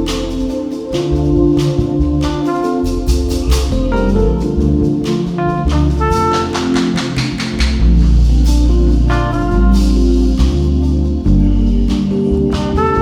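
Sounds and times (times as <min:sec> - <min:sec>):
drum kit beat: 0:00.0 - 0:13.0
heavy bass line: 0:00.0 - 0:13.0
trumpet melody: 0:00.0 - 0:13.0.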